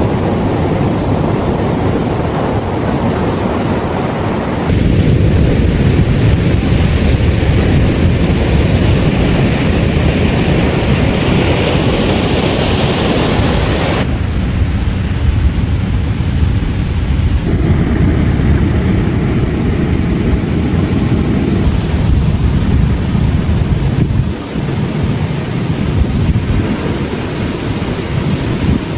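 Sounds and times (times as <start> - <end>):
water noise: 0.0 - 28.9
wind roar: 0.0 - 28.9.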